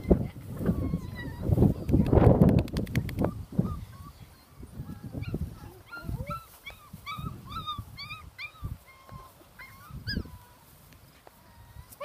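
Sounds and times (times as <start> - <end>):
puppies whimpering and yipping: 0.0 - 2.0, 3.2 - 12.0.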